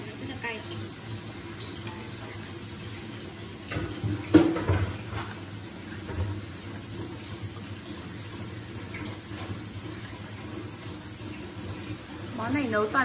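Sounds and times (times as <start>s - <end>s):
bubbling hiss of braising in a wok: 0.0s - 13.0s.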